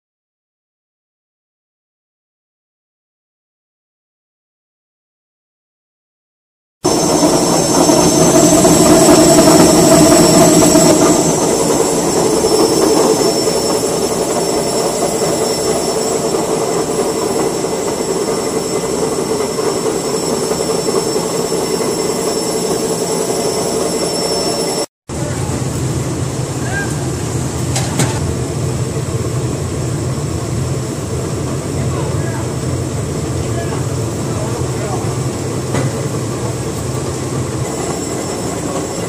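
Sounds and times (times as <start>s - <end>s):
roller mill drone with whine: 6.9s - 39.0s.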